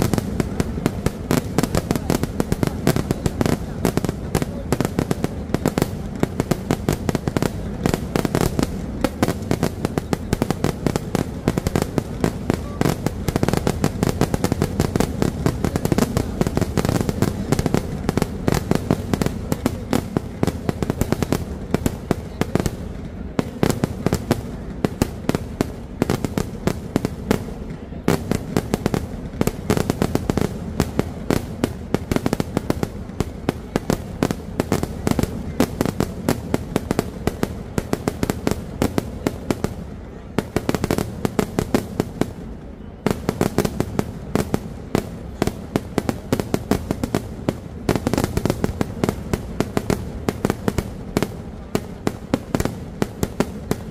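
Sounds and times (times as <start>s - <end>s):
firecracker blasts: 0.0s - 53.9s.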